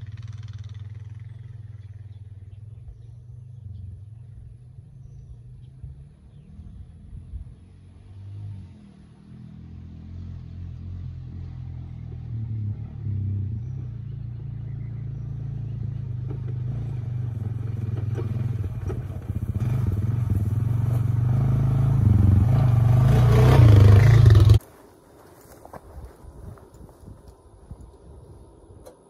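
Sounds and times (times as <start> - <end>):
atv engine running: 0.0 - 7.8, 9.1 - 24.8.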